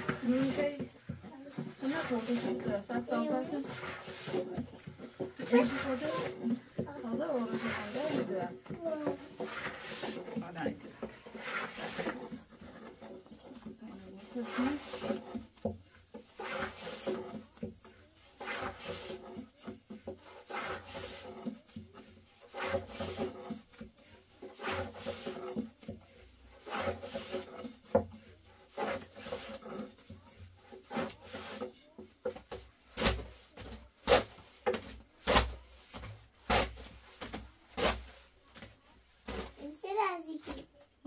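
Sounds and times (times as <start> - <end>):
rubbing or scraping strokes: 0.0 - 40.8.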